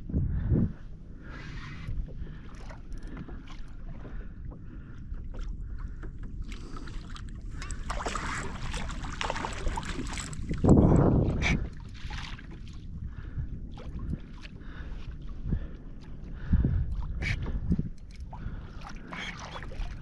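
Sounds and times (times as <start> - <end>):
water splashing around kayak: 1.1 - 20.0.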